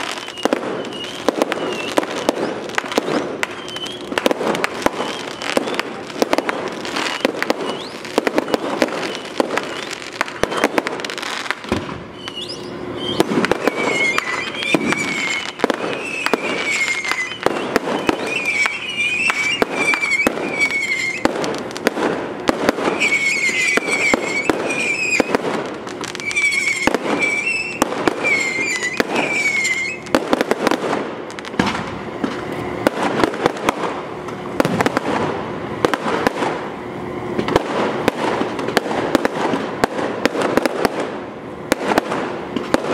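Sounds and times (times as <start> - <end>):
whistling fireworks shells: 0.0 - 36.7
fireworks bangs and crackles: 0.0 - 42.9.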